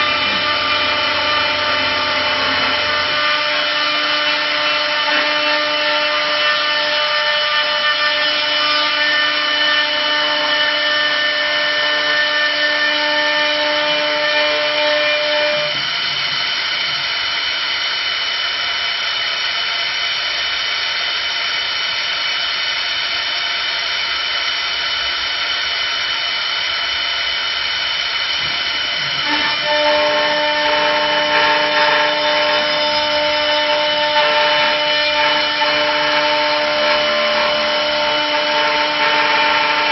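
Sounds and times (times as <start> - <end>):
lathe hiss: 0.0 - 39.9
wood lathe whine: 0.0 - 39.9.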